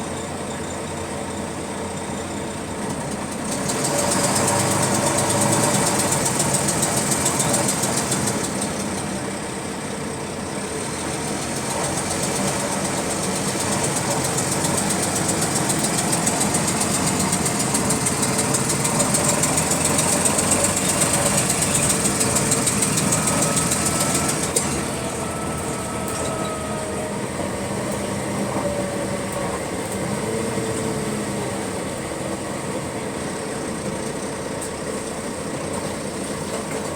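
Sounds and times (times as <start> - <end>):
bus diesel engine running: 0.0 - 36.9
rapid engine clicking: 0.0 - 36.9.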